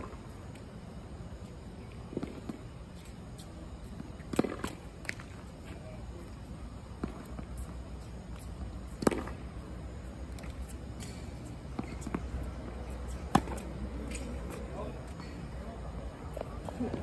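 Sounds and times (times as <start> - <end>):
steady low hum: 0.0 - 17.0
tennis balls bouncing and hit: 1.4 - 17.0.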